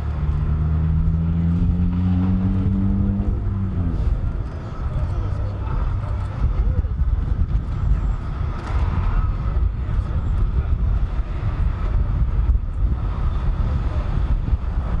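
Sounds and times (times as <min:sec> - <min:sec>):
passing cars and trucks rumble: 0:00.0 - 0:15.0.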